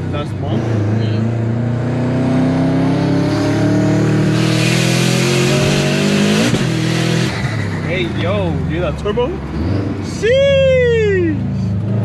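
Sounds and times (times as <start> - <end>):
car engine accelerating: 0.0 - 10.2.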